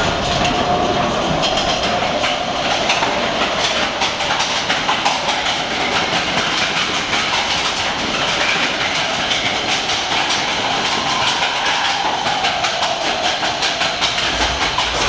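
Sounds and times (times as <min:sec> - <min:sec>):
roller coaster rattling on track: 0:00.0 - 0:15.0.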